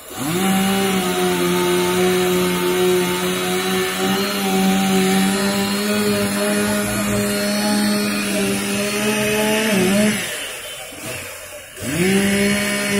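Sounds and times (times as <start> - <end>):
chainsaw cutting tree: 0.0 - 12.9.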